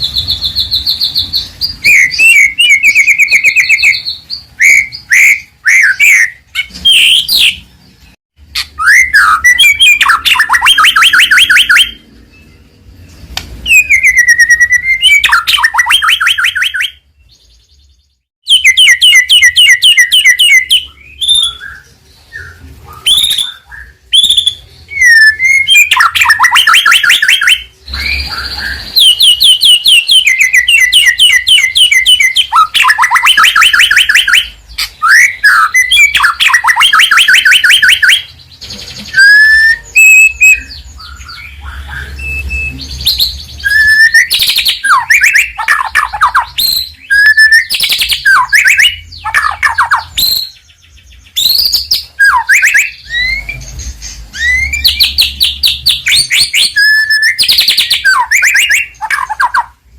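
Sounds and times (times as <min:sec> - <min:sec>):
songbird singing trills and whistles: 0:00.0 - 0:59.9.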